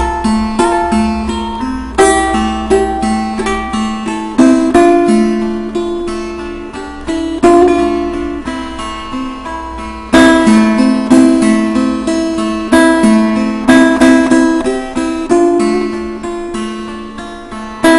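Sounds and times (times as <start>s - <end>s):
plucked lute: 0.0s - 17.9s
strong string strikes: 0.0s - 17.9s.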